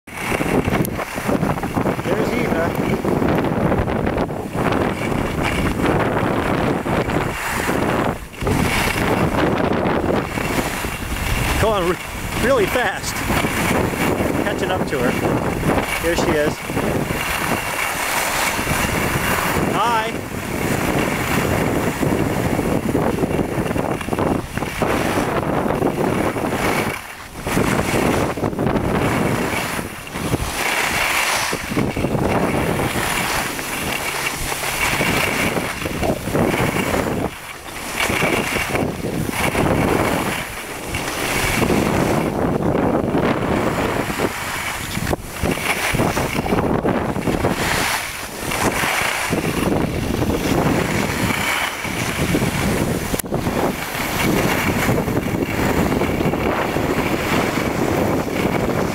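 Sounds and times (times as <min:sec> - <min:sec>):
wind rushing over microphone: 0:00.0 - 0:58.9
skis sliding over snow: 0:00.1 - 0:58.9.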